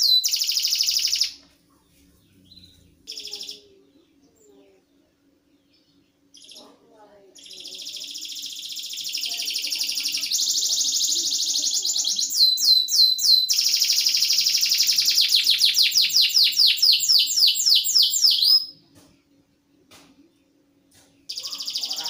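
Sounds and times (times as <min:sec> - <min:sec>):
canary singing: 0:00.0 - 0:19.0, 0:21.2 - 0:22.0.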